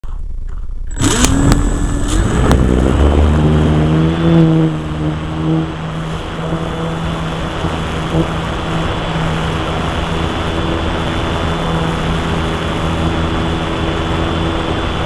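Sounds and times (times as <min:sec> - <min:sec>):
model airplane motor and propeller: 0:00.0 - 0:15.0.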